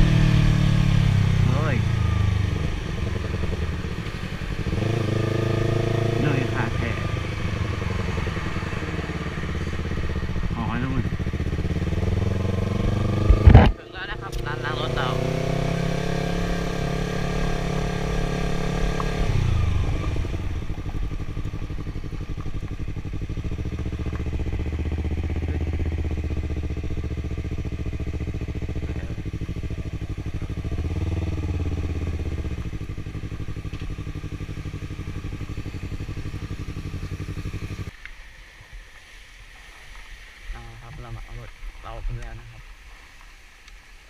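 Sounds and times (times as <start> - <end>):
motorcycle engine idling: 0.0 - 15.6, 16.3 - 38.0.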